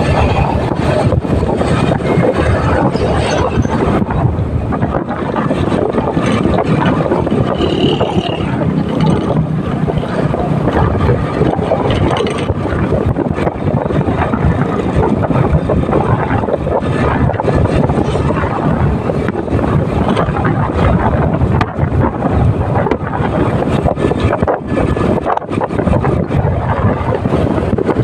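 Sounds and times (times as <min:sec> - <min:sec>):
motorcycle road and engine noise: 0:00.0 - 0:28.0
wind buffeting microphone: 0:00.0 - 0:28.0.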